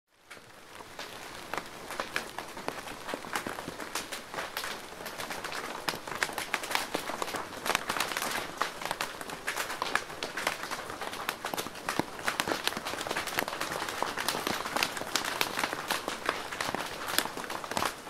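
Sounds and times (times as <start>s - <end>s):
rain drumming on plastic roof: 0.1s - 18.0s.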